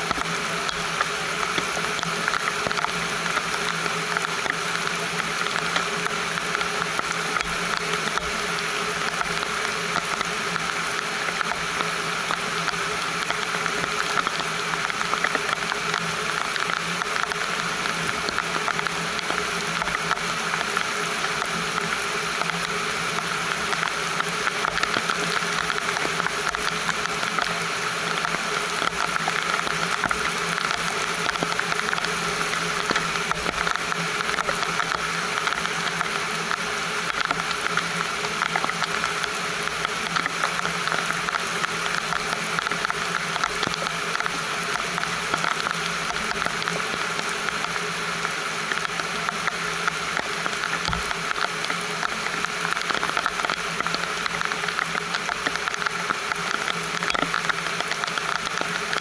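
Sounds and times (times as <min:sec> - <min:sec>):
raindrops tapping: 0:00.0 - 0:59.0
steady rain falling: 0:00.0 - 0:59.0.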